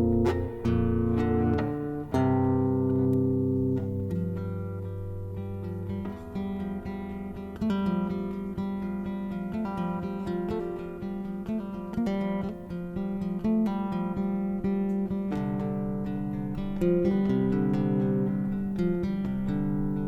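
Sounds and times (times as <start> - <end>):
guitar playing plucked notes: 0.0 - 20.0.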